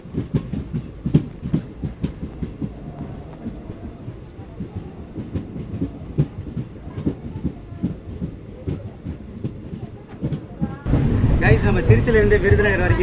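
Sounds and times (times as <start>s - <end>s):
train running rumble: 0.0s - 13.0s
wheels knocking and clacking: 0.0s - 13.0s.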